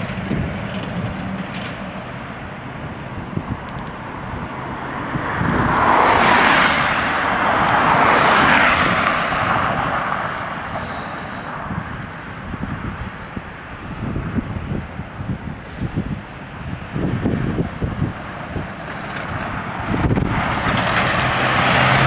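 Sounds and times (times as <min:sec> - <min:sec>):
car passing by: 0:00.0 - 0:13.2, 0:15.6 - 0:22.0.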